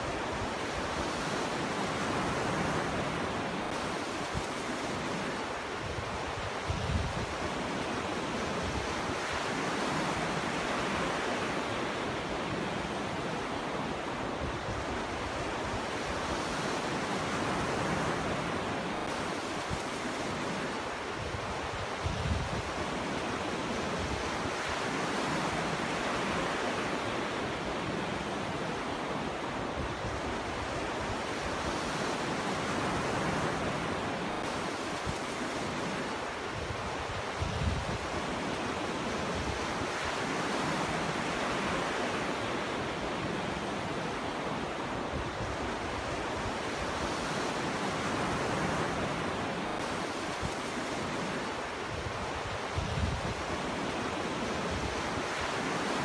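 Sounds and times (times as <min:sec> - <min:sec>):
ocean surf washing on beach: 0:00.0 - 0:56.0
wind on microphone: 0:00.0 - 0:56.0.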